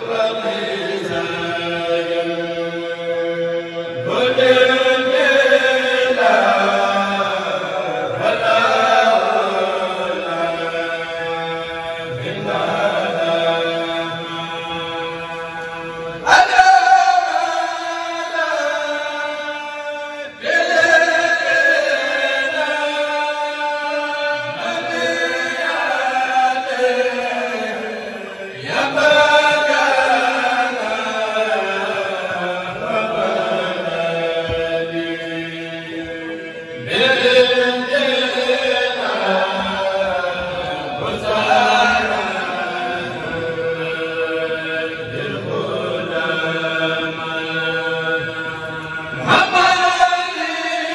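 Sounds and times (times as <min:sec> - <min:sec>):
men chanting over loudspeakers: 0:00.0 - 0:50.9.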